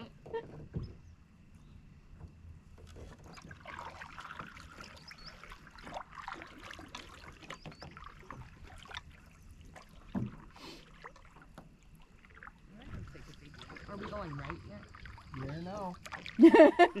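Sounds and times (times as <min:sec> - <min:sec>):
paddles splashing in water: 0:02.8 - 0:17.0.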